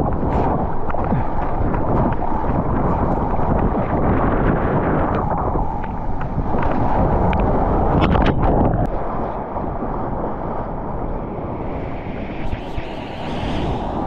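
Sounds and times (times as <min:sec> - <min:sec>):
wave water rushing and splashing: 0:00.0 - 0:14.0
wind buffeting microphone: 0:00.0 - 0:14.0.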